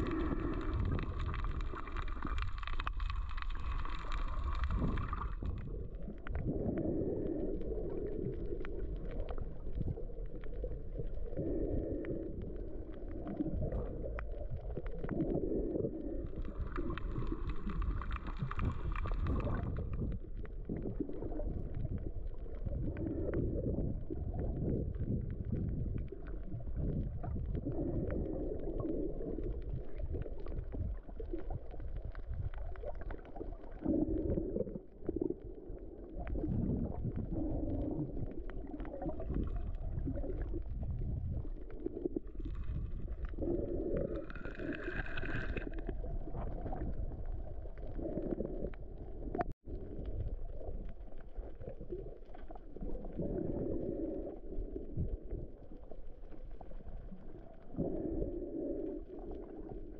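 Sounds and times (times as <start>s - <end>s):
underwater rumble and sloshing: 0.0s - 59.9s.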